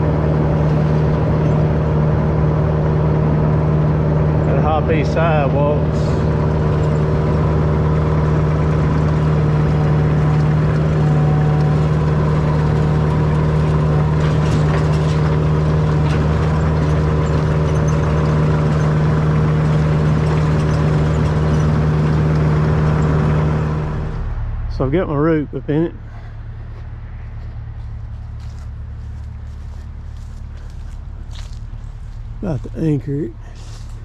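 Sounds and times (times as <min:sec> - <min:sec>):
work machine engine droning: 0:00.0 - 0:34.0.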